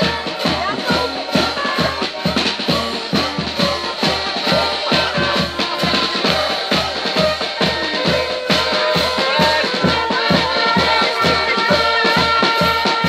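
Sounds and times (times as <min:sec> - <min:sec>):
accordion melody: 0:00.0 - 0:13.0.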